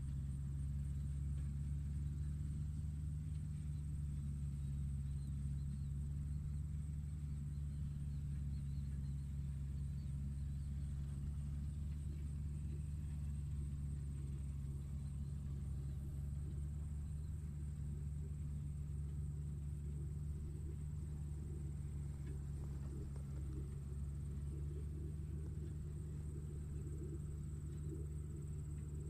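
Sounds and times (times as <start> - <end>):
faint high-pitched whine: 0.0 - 29.0
tractor engine droning: 0.0 - 29.0.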